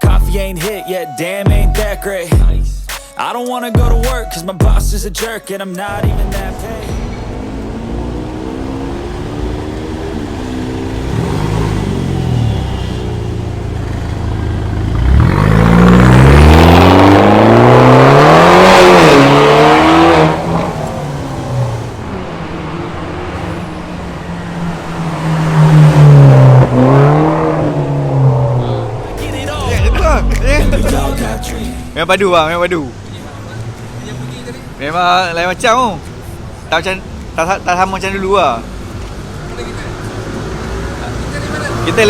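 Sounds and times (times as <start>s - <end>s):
car engine idling and revving: 5.9s - 42.0s.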